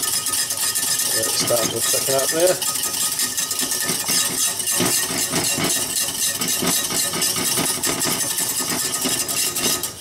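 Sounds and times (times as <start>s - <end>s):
whisk scraping a metal saucepan: 0.0s - 10.0s.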